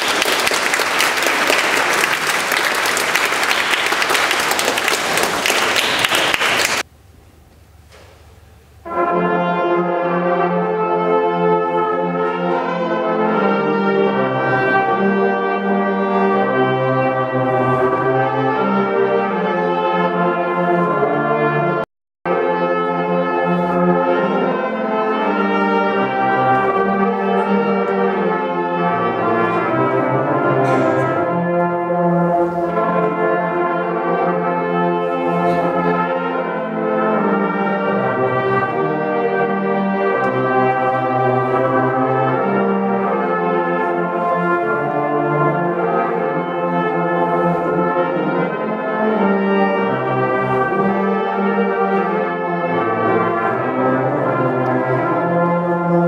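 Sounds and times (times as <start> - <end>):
brass ensemble playing chords: 0.0 - 6.9, 8.6 - 56.0.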